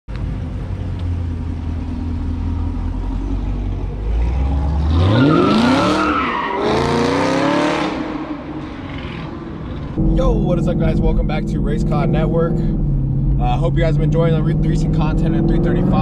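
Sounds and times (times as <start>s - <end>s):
car engine idling and accelerating: 0.1s - 16.0s.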